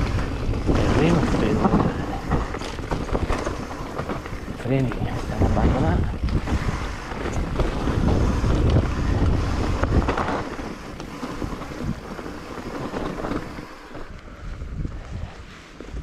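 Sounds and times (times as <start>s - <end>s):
bike knocks and rattles: 0.0s - 14.1s
wind buffeting microphone: 0.0s - 16.0s.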